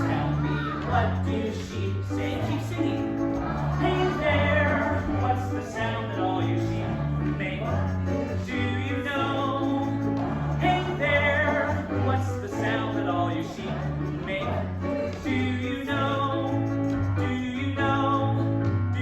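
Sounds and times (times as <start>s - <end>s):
instrumental accompaniment: 0.0s - 19.0s
voices singing: 0.0s - 19.0s.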